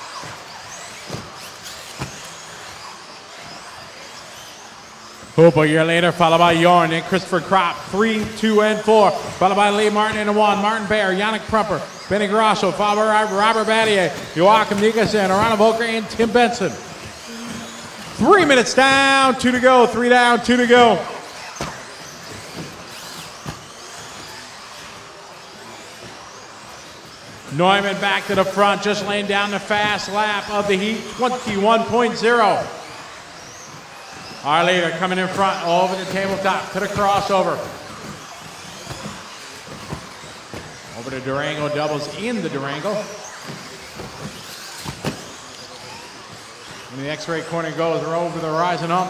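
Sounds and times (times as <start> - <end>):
rc car motors whining: 0.0 - 49.0.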